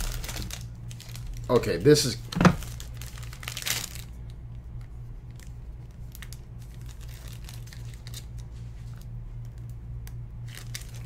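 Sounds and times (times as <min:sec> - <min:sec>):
foil and plastic crinkling: 0:00.0 - 0:04.3, 0:05.2 - 0:09.7, 0:10.4 - 0:11.0
low hum: 0:00.0 - 0:11.0.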